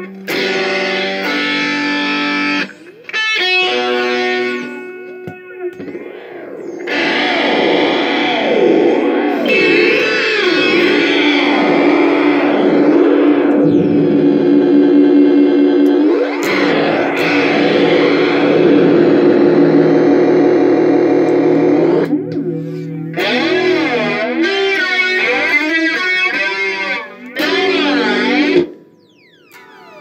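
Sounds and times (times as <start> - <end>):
electric guitar with flanger: 0.0 - 30.0.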